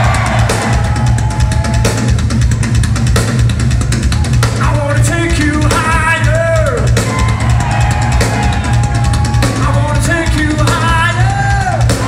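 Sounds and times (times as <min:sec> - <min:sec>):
rock drum kit: 0:00.0 - 0:12.0.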